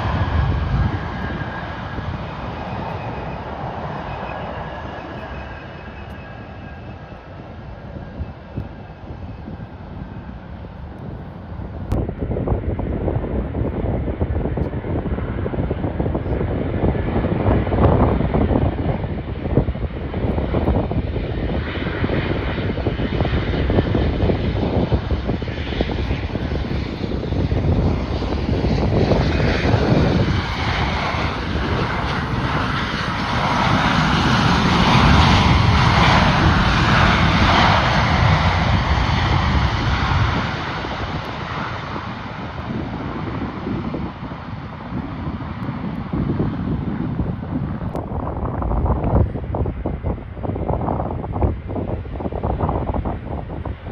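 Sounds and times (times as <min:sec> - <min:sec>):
airliner engines passing: 0:00.0 - 0:53.9
wind buffeting microphone: 0:00.0 - 0:53.9.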